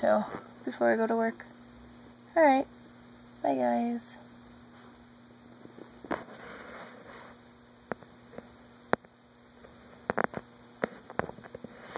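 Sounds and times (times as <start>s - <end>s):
low electrical hum: 0.0s - 11.9s.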